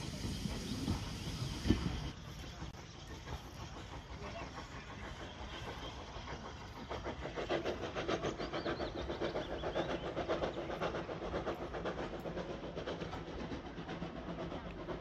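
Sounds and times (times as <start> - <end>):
steam locomotive chuffing: 0.0 - 15.0
wheels on rails: 0.0 - 15.0.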